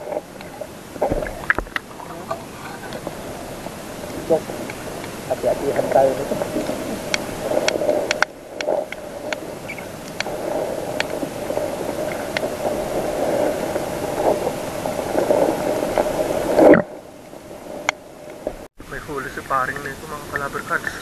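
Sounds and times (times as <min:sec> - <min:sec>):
sharp clicks underwater: 0:00.0 - 0:17.0
underwater rushing water: 0:00.0 - 0:21.0.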